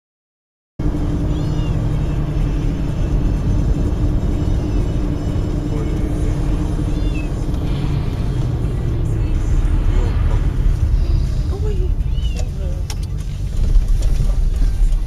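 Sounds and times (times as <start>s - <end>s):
car driving on road: 0.8s - 15.0s.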